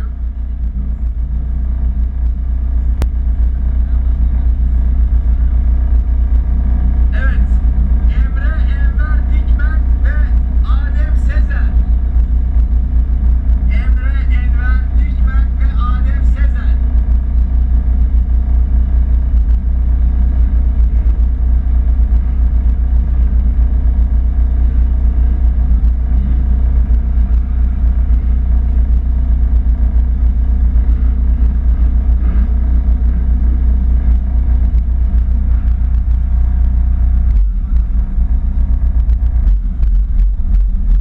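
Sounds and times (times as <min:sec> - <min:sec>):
race car engine idling: 0:00.0 - 0:41.0.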